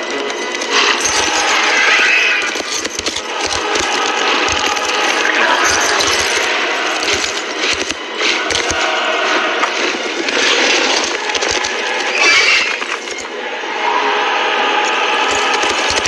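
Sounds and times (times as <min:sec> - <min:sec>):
horse hooves galloping: 0:00.0 - 0:13.3
tack jingling: 0:00.0 - 0:13.3.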